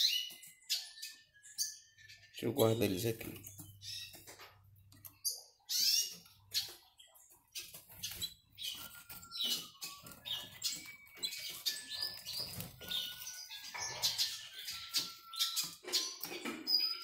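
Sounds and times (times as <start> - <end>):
chicks cheeping: 0.0 - 17.0.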